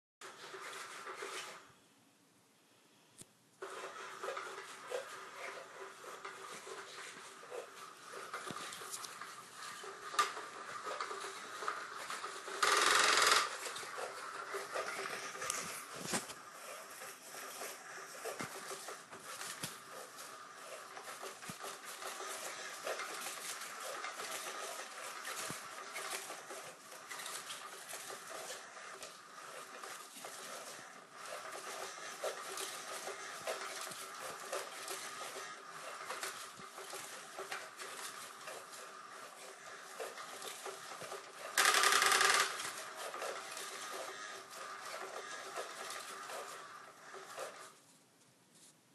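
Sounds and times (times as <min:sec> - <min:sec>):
small electric motor whirring: 0:03.6 - 0:47.7.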